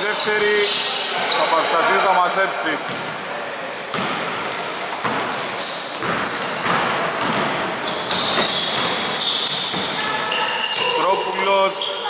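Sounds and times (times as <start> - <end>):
shoes squeaking on court: 0.0 - 1.6, 2.8 - 12.0.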